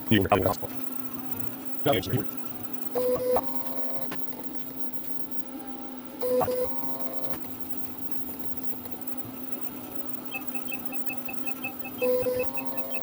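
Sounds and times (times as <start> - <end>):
faint rapid ticking: 0.0 - 13.0
stepper motors whining: 0.0 - 13.0.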